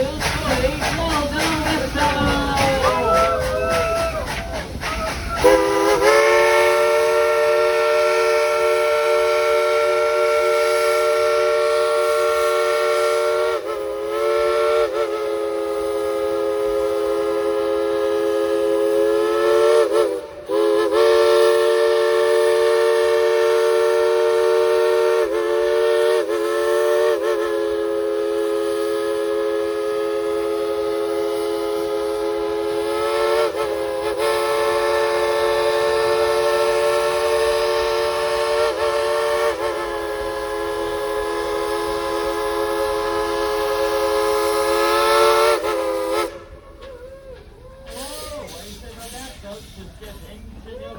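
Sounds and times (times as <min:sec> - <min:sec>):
steam locomotive chime whistle: 0:00.5 - 0:47.0.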